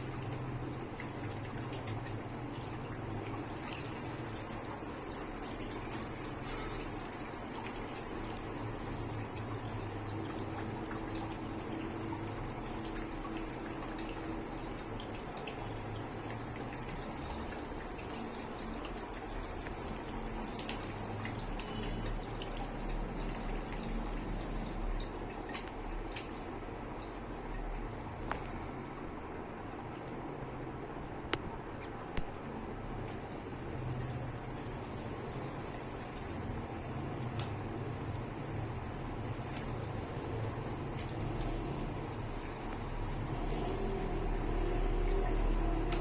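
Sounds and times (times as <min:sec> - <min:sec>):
water running: 0:00.0 - 0:46.0.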